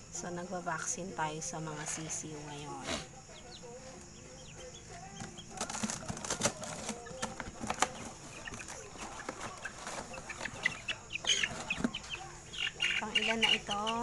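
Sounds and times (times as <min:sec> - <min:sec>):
chicks peeping: 0:00.7 - 0:14.0.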